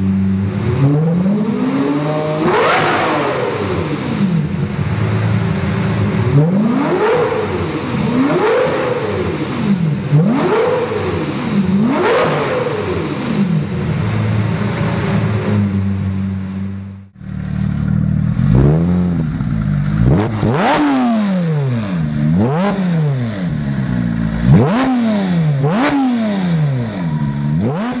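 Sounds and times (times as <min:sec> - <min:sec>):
sports car engine revving: 0:00.0 - 0:28.0.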